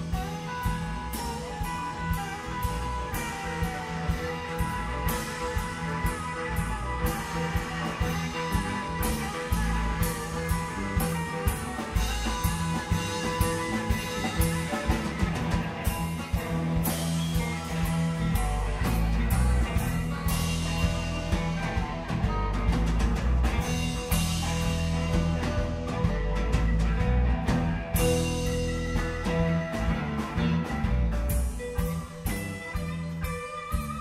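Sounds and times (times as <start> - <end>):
bass guitar: 0.0 - 34.0
drum kit with cymbals: 0.0 - 34.0
electric guitar: 0.0 - 34.0.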